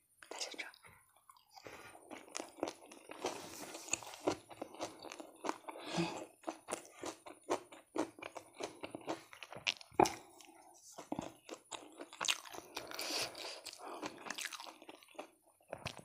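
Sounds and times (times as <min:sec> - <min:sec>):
crunchy chewing: 0:01.3 - 0:16.0.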